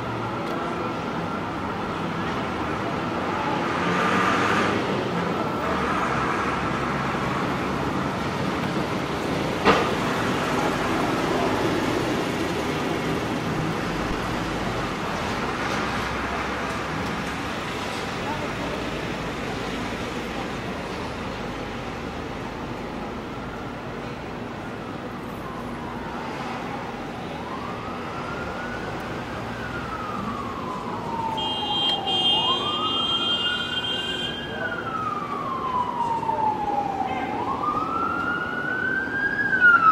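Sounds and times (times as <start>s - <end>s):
emergency siren wailing: 0.0s - 17.0s, 22.2s - 39.9s
city street traffic noise: 0.0s - 39.9s.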